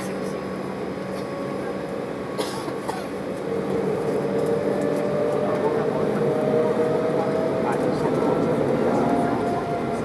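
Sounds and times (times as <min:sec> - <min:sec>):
jet engine drone in cabin: 0:00.0 - 0:10.0.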